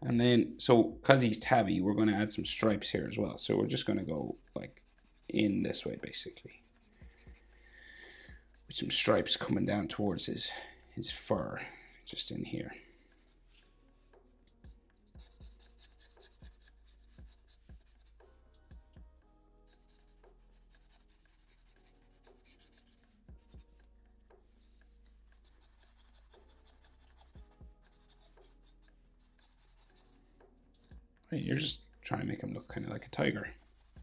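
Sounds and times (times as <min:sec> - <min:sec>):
marker stroking on paper: 0:02.0 - 0:10.3, 0:11.8 - 0:18.6, 0:19.6 - 0:31.0, 0:32.3 - 0:34.0.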